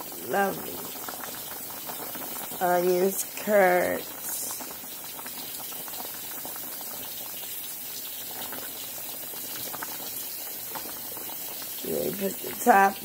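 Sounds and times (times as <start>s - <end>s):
curry bubbling and popping: 0.0s - 13.0s.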